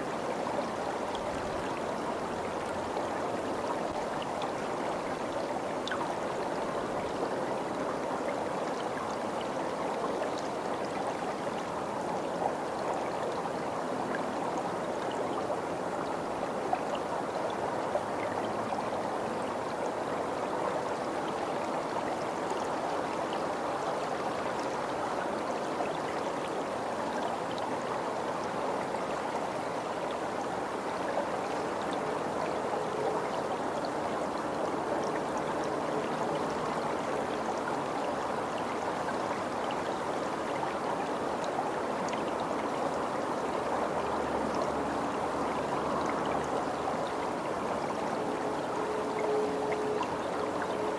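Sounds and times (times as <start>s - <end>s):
stream water rushing: 0.0s - 50.9s.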